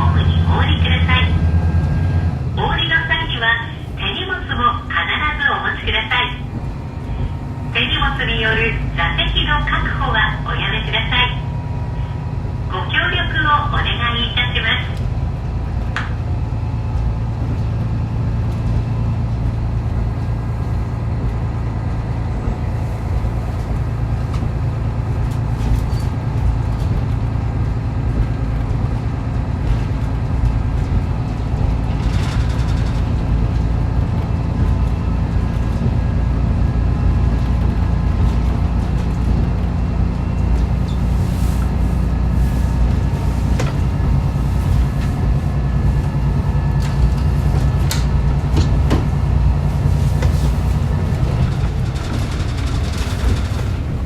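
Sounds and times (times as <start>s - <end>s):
railcar engine and wheels rumbling: 0.0s - 54.0s.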